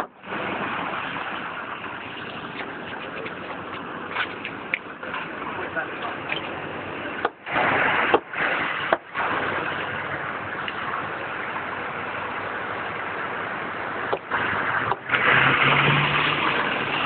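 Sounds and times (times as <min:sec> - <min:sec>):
road traffic noise: 0:00.0 - 0:17.0
vehicle engine: 0:00.0 - 0:17.0.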